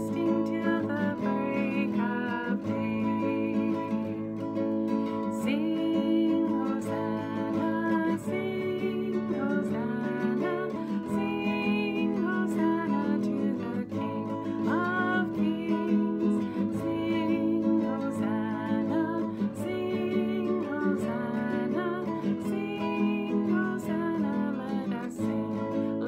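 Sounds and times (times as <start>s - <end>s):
woman singing a hymn: 0.0s - 4.4s, 5.1s - 26.0s
nylon-string guitar strumming: 0.0s - 26.0s.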